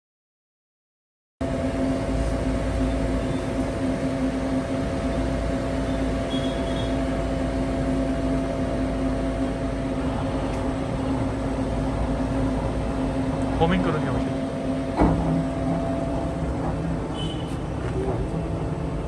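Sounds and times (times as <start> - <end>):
lathe humming: 1.5 - 19.0.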